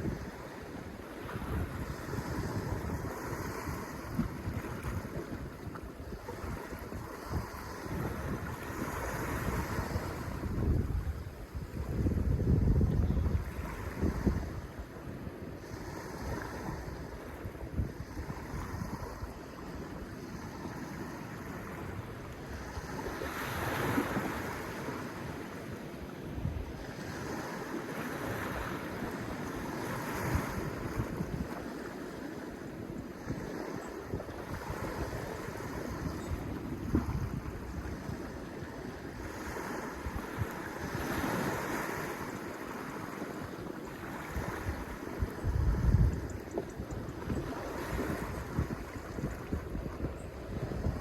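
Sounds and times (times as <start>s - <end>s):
wind buffeting microphone: 0.0s - 0.6s, 1.2s - 25.6s, 26.2s - 31.8s, 33.2s - 43.1s, 43.9s - 51.0s
sea waves washing on shore: 0.0s - 51.0s.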